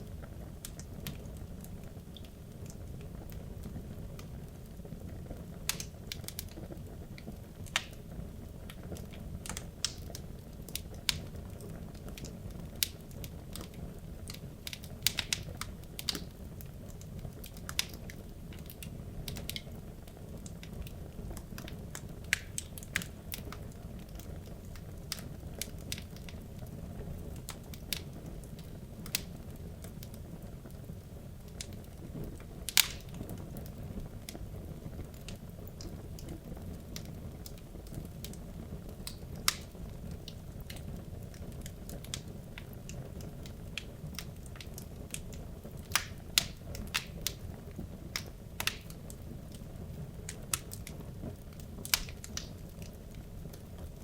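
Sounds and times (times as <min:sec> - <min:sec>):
low rumble of flames: 0:00.0 - 0:54.0
wood crackling and popping: 0:00.0 - 0:54.0.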